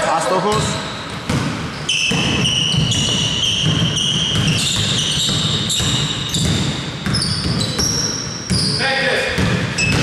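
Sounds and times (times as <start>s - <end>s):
gym noise: 0.0s - 10.0s
basketball bouncing: 0.5s - 10.0s.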